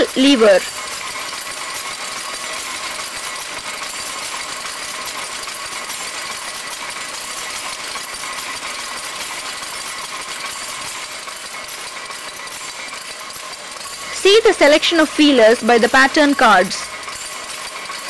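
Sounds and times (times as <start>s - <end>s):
power loom metallic clatter: 0.0s - 18.0s.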